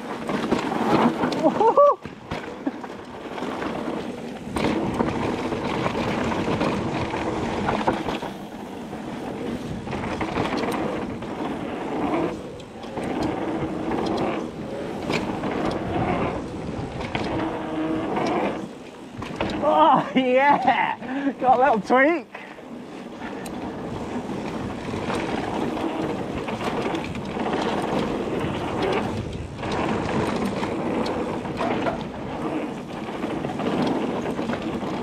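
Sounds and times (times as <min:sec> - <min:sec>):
bike tyre noise on dirt: 0:00.0 - 0:35.0.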